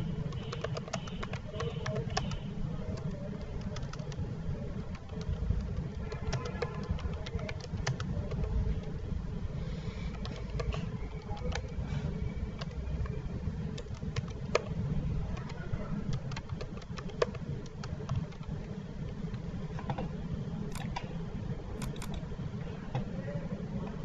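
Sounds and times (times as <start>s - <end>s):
keyboard typing: 0.0s - 9.0s, 9.8s - 20.0s, 20.7s - 21.1s, 21.8s - 22.3s
low background rumble: 0.0s - 24.0s.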